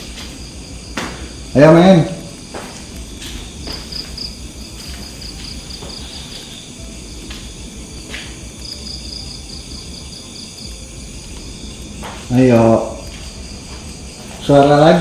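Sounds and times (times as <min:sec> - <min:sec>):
crickets chirping: 0:00.0 - 0:15.0
high insect drone: 0:00.0 - 0:15.0.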